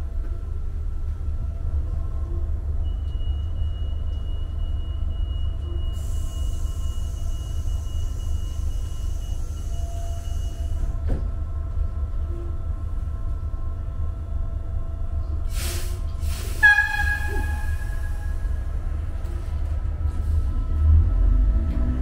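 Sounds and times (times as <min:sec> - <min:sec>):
train hum with faint whine: 0:00.0 - 0:22.0.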